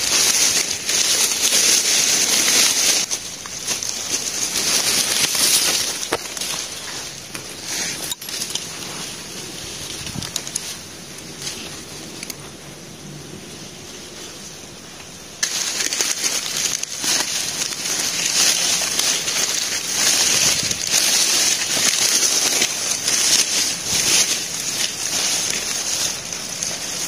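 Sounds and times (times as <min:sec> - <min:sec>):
dry leaves rustling and crackling: 0:00.0 - 0:27.0.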